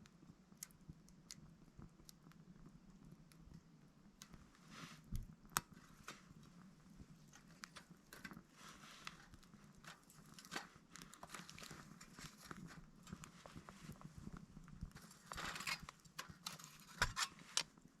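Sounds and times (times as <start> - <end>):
wood fire crackling in a stove: 0.0 - 18.0.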